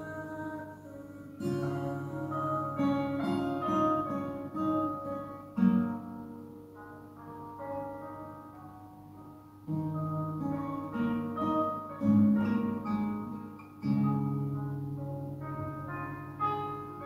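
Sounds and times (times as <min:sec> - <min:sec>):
fingerpicked acoustic guitar: 0:00.0 - 0:17.0.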